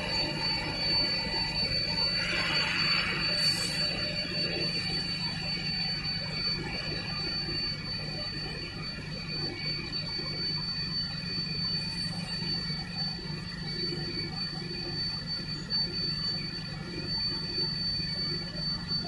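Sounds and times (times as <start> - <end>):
high-pitched machine whine: 0.0 - 19.0
machinery low hum: 0.0 - 19.0.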